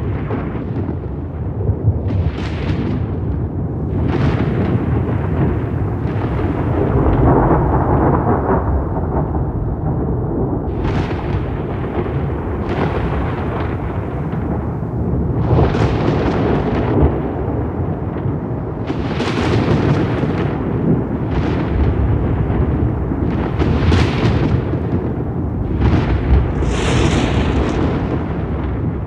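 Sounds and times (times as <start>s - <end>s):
rolling thunder rumble: 0.0s - 29.0s.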